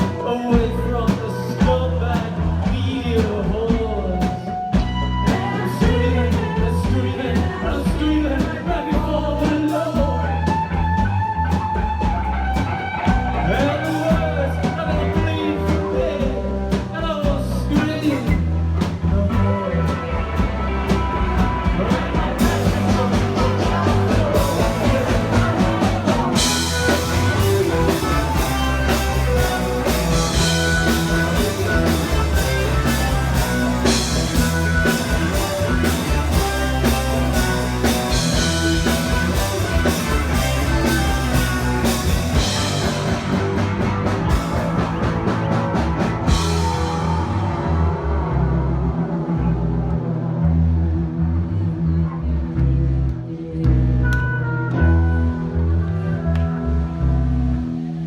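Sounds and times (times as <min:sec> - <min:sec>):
drums and cymbals: 0:00.0 - 0:47.5
rock music with guitar and bass: 0:00.0 - 0:58.0.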